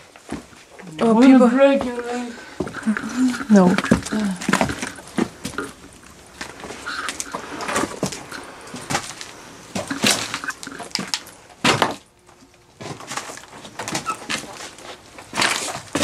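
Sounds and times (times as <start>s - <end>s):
footsteps crunching over rubble: 0.0s - 16.0s.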